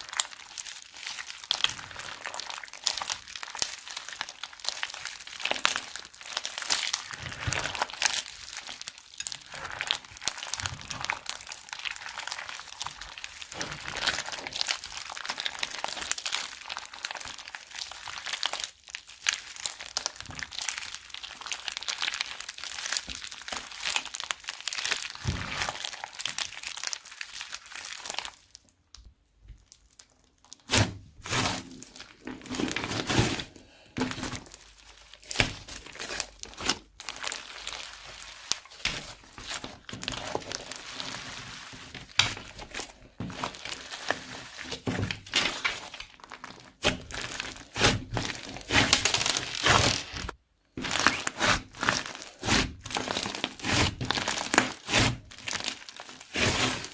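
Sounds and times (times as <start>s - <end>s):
slime crackling in plastic bag: 0.0s - 56.9s
slime squishing: 0.0s - 56.9s.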